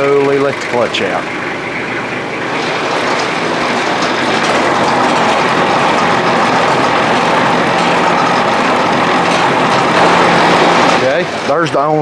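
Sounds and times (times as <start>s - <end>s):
baler chain drives clattering: 0.0s - 12.0s
tractor engine running: 0.0s - 12.0s.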